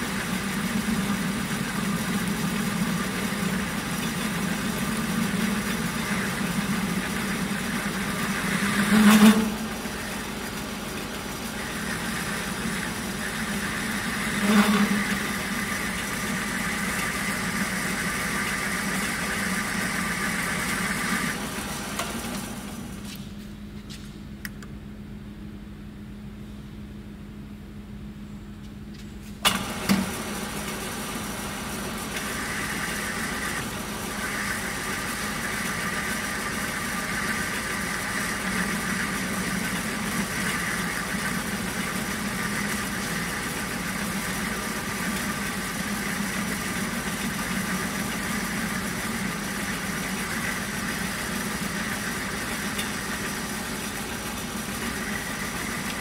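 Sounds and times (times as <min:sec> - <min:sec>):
lathe humming and whining: 0:00.0 - 0:23.1, 0:29.5 - 0:56.0.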